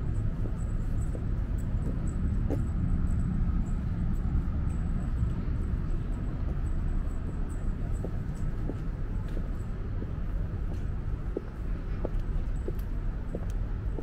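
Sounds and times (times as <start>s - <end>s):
city ambience rumble: 0.0s - 14.0s
faint footsteps: 0.0s - 14.0s.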